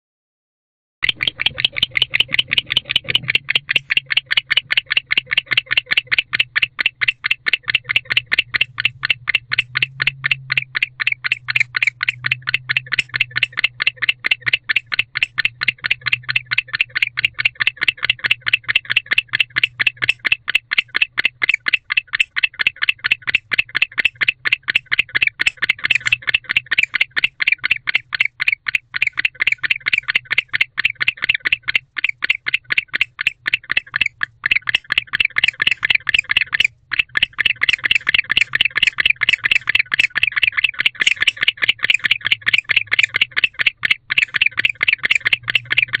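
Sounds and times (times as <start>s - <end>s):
owl rapid chirps: 1.0s - 46.0s.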